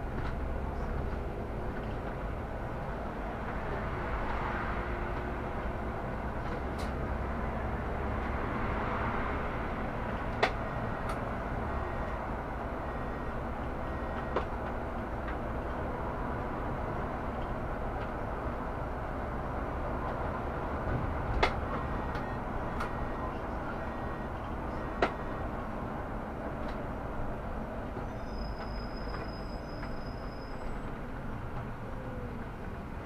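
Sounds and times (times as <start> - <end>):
bus engine rumble: 0.0 - 33.0.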